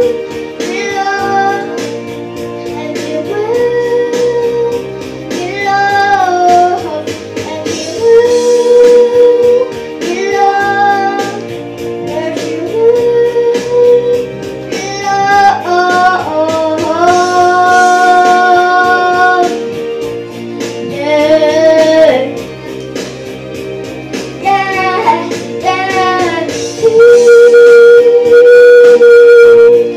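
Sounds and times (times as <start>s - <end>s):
boy singing pop ballad: 0.0s - 22.7s, 24.1s - 29.9s
instrumental accompaniment with beat: 0.0s - 29.9s.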